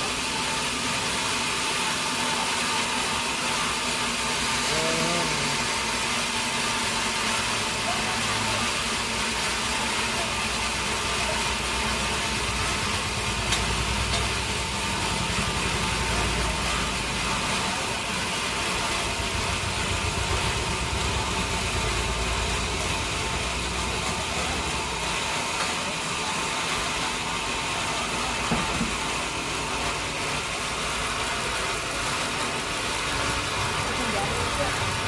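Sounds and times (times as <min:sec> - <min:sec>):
sawmill machinery droning: 0:00.0 - 0:35.0.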